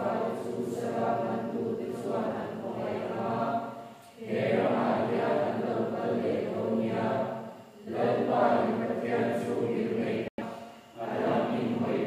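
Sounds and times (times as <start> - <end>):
congregation singing in unison: 0.0 - 12.0.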